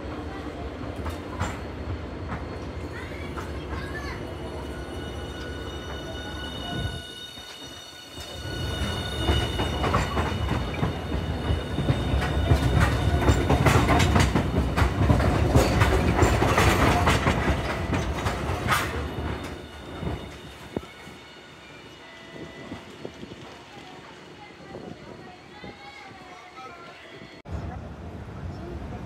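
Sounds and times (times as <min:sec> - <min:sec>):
wheels clacking on rails: 0:00.0 - 0:25.1
tram rumbling past: 0:00.0 - 0:26.4.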